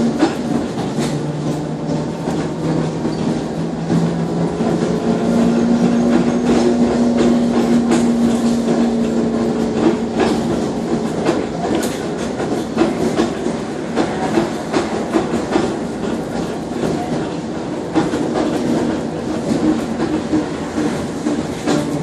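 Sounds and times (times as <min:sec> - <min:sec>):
bus body rattles: 0:00.0 - 0:22.0
road rumble: 0:00.0 - 0:22.0.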